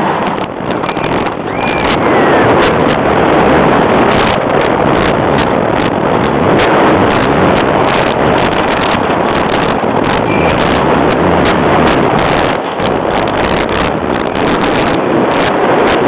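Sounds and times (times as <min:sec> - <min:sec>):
rumble of wheels: 0:00.0 - 0:16.0
wind buffeting microphone: 0:00.0 - 0:16.0.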